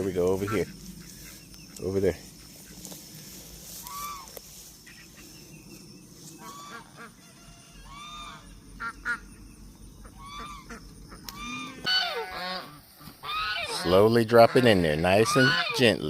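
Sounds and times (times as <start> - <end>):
ducks quacking: 0.0 - 5.4, 6.3 - 9.4, 10.0 - 16.0.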